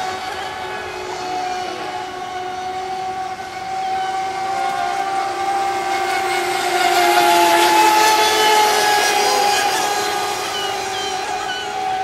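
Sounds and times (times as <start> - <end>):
high-pitched motor whine: 0.0 - 12.0.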